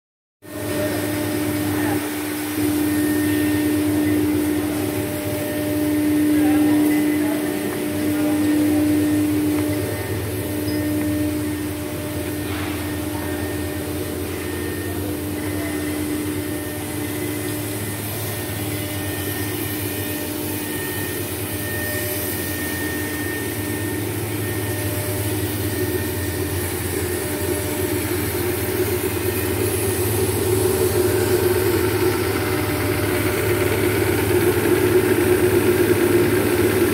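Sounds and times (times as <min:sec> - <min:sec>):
vacuum pump motor humming: 0:00.5 - 0:36.9.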